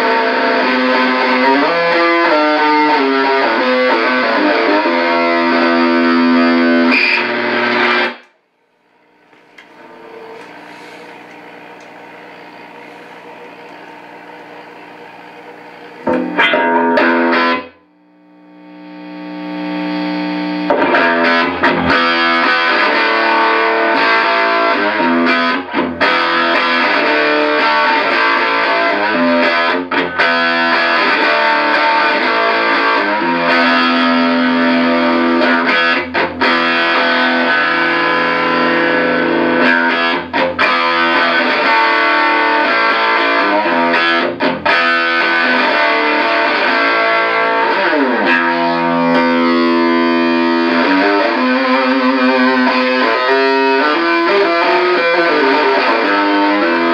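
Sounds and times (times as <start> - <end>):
fuzzed electric guitar: 0.0 - 56.9.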